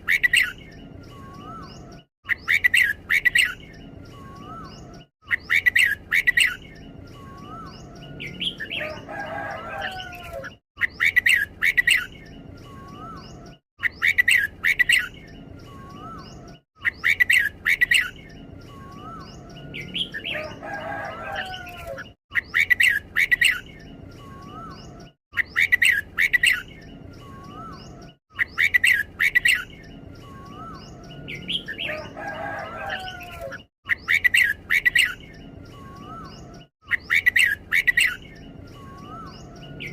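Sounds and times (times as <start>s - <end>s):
bird whistled song: 0.0s - 9.1s, 9.8s - 39.9s
bird warbled phrase: 0.0s - 39.9s.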